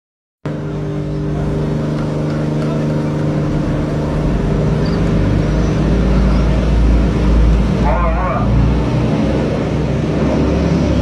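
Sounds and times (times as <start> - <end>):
boat engine droning: 0.5 - 11.0
deep rumble: 0.5 - 11.0.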